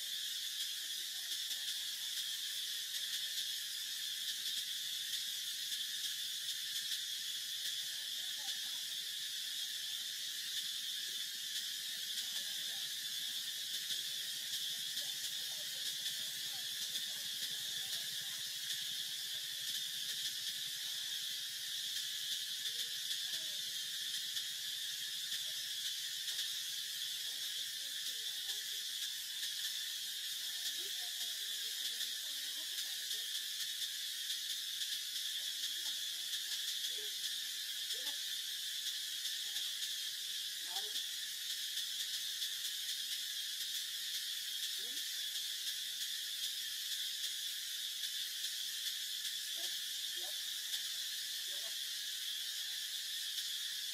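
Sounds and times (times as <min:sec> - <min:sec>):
insects chorus drone: 0:00.0 - 0:53.9.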